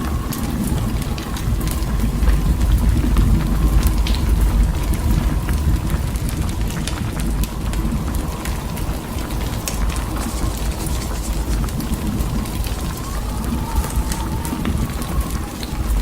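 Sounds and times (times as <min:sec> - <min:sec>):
small crackles and ticks: 0:00.0 - 0:16.0
storm wind rumbling: 0:00.0 - 0:16.0.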